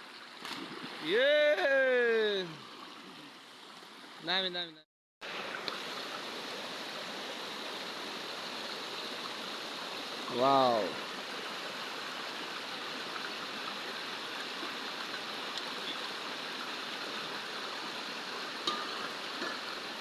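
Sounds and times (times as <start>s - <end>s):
stream flowing: 0.0s - 20.0s.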